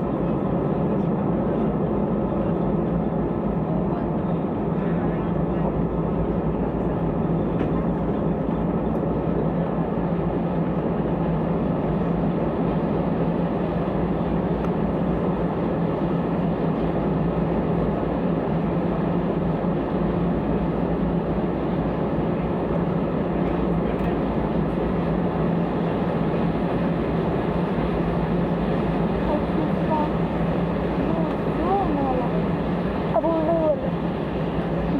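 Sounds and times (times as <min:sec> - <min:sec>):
jet engines droning: 0:00.0 - 0:34.9.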